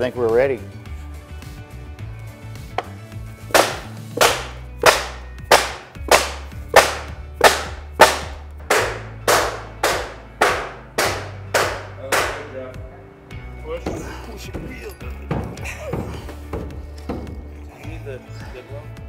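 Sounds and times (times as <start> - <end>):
low background music: 0.0 - 19.0.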